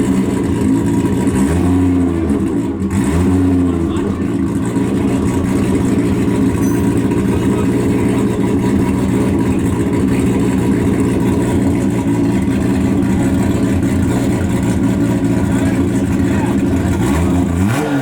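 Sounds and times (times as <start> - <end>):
car engine running loudly: 0.0 - 18.0.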